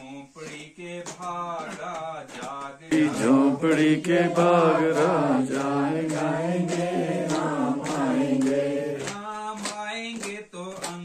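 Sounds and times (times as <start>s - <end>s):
group singing devotional song: 0.0s - 11.0s.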